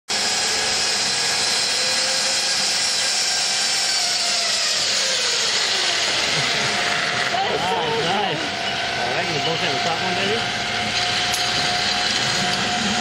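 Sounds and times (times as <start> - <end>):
zipline pulleys whirring on cable: 0.1 - 13.0.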